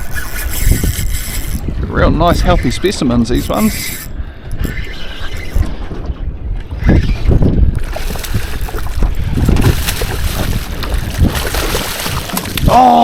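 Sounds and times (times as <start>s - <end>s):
water moving around boat: 0.0s - 13.0s
wind buffeting microphone: 0.0s - 13.0s.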